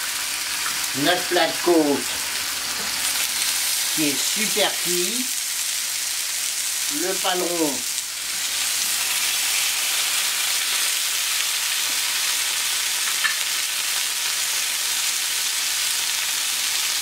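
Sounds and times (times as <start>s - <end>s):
meat sizzling on hot plate: 0.0s - 17.0s.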